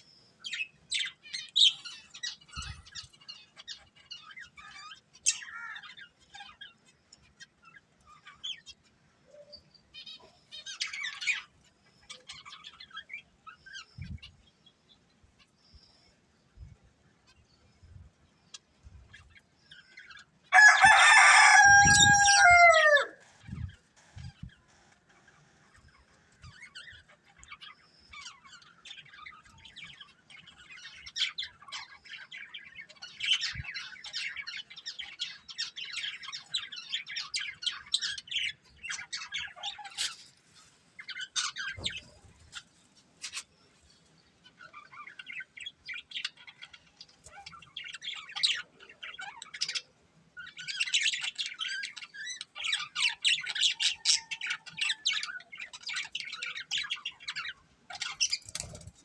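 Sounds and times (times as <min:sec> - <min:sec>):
budgerigars chirping and chattering: 0:00.0 - 0:16.3, 0:17.1 - 0:59.0.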